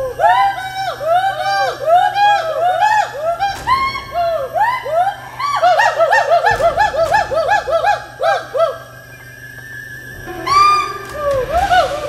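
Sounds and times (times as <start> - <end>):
gibbons hooting calls: 0.0 - 12.0.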